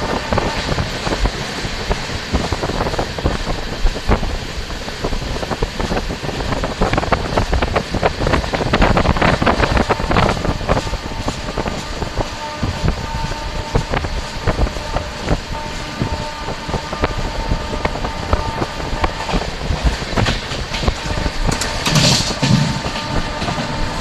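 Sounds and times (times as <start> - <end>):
train clatter and rumble: 0.0 - 24.0
wind buffeting microphone: 0.0 - 24.0.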